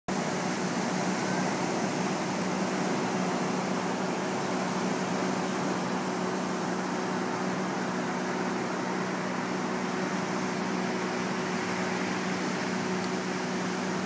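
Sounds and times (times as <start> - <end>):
mechanical motor hum: 0.1 - 14.0.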